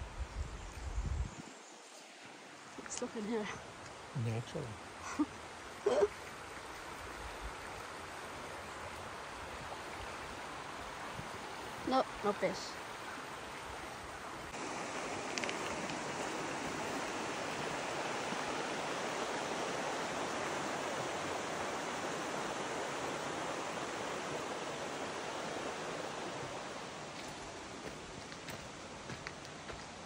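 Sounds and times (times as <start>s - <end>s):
stream water rushing: 1.4s - 30.0s.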